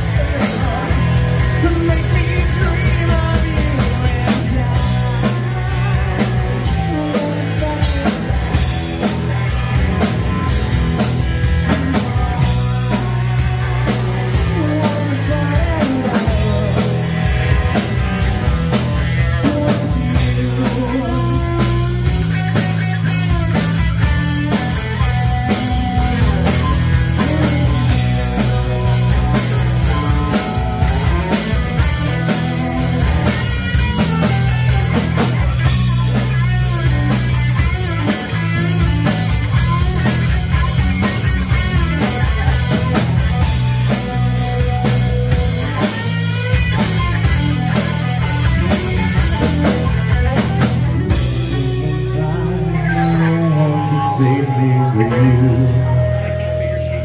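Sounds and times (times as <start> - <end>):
drum kit: 0.0 - 57.0
electric bass guitar: 0.0 - 57.0
electric guitar: 0.0 - 57.0.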